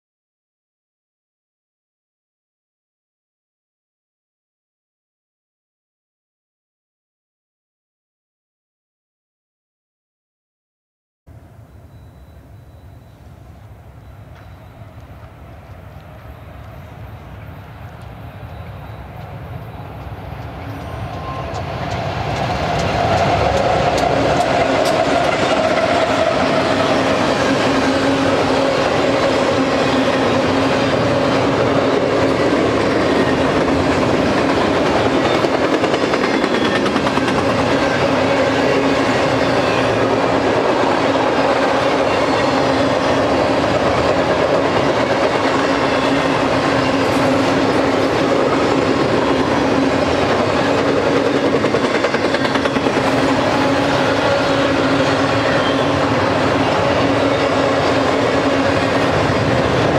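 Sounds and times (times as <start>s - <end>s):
train wheels rolling on rail: 11.4s - 59.9s.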